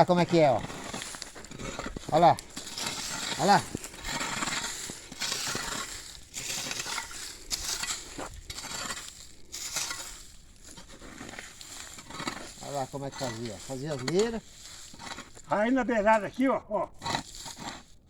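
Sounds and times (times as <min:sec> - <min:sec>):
hoe scraping leaves and soil: 0:00.0 - 0:18.0.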